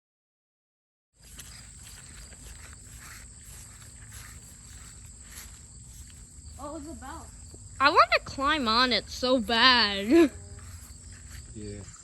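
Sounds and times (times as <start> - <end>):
rustling: 1.2 - 7.6, 8.7 - 12.0
faint footsteps: 1.2 - 12.0
insect chirring: 1.2 - 12.0.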